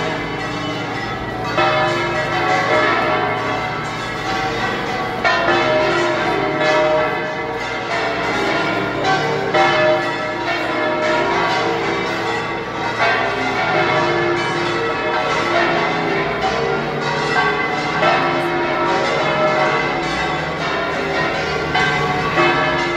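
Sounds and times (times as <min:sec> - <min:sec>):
church bells pealing loudly: 0:00.0 - 0:22.9.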